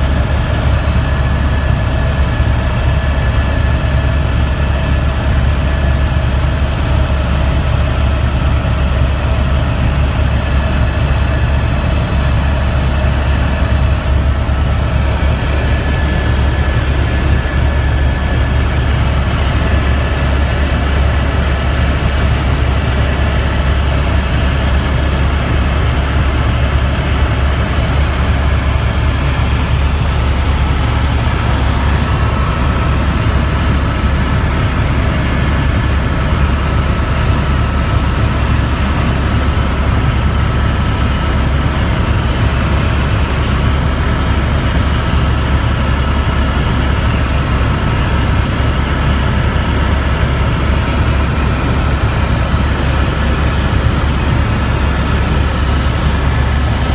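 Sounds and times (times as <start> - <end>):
helicopter rotor and engine drone: 0.0 - 56.9.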